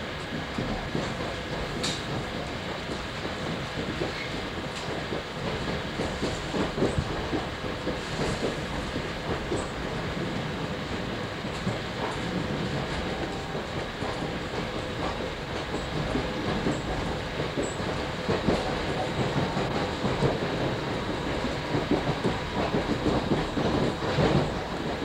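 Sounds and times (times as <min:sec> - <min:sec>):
train rumble inside carriage: 0:00.0 - 0:25.0
wheels clicking over rail joints: 0:00.5 - 0:25.0.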